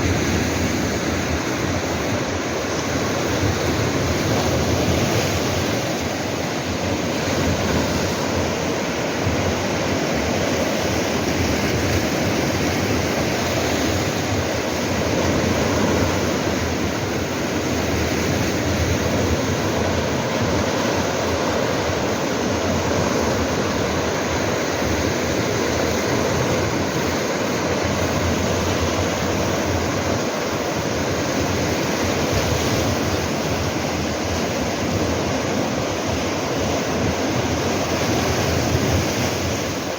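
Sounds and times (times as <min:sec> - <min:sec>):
sea waves on rocks: 0:00.0 - 0:39.9.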